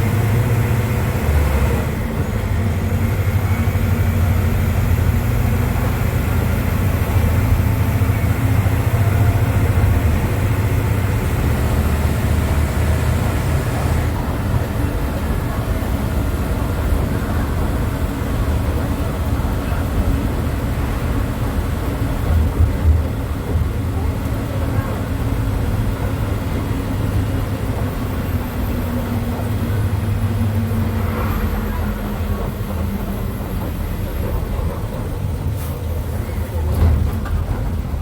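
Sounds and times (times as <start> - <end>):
diesel engine rumbling: 0.0 - 38.0.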